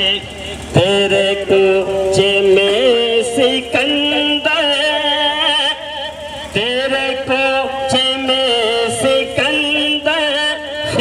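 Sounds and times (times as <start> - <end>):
amplified devotional singing: 0.0 - 11.0.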